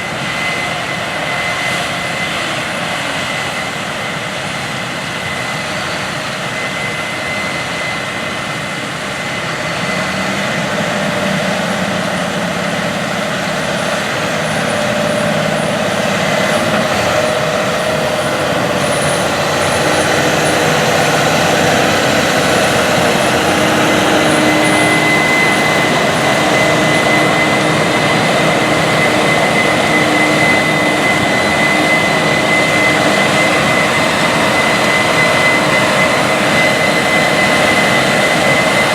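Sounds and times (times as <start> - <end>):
combine harvester drone with whine: 0.0 - 38.9.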